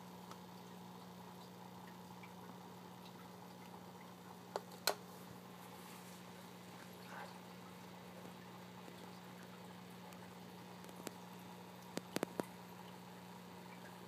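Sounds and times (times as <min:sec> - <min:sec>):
aquarium filter humming and bubbling: 0:00.0 - 0:14.0.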